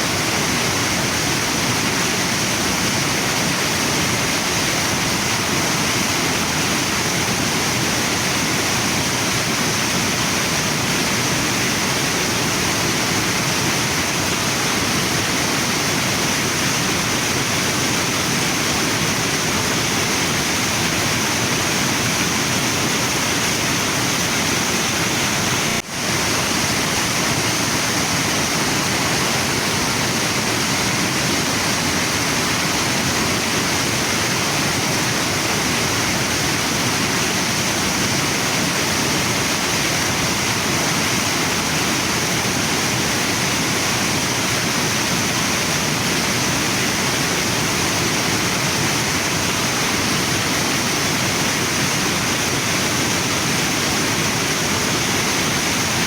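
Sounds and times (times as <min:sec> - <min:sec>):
waterfall and river rushing: 0:00.0 - 0:56.0.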